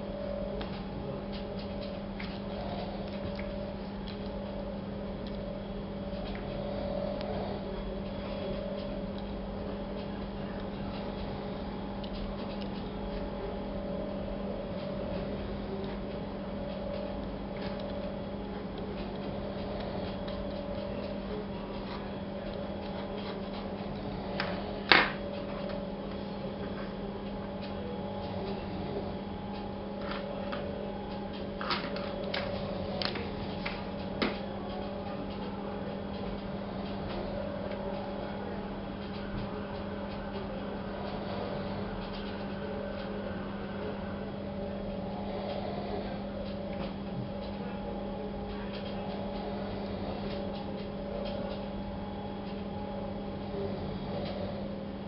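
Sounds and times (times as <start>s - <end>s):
steady low machine hum: 0.0s - 55.0s.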